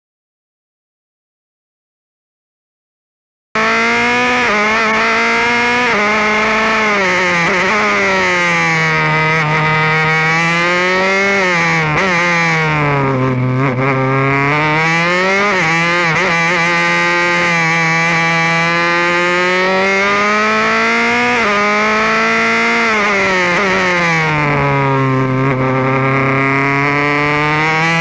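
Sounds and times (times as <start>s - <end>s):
racing car engine: 3.6s - 28.0s.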